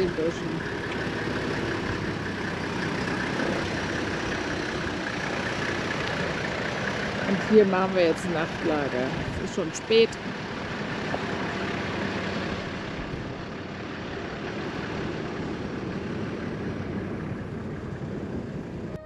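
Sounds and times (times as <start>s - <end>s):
diesel engine running: 0.0s - 19.0s
rumbling road noise: 0.0s - 19.0s.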